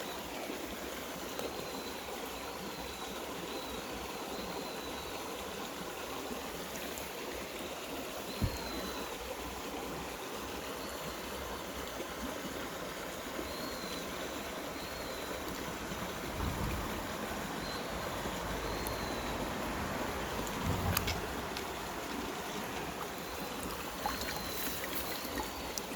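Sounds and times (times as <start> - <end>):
stream running over rocks: 0.0 - 25.9.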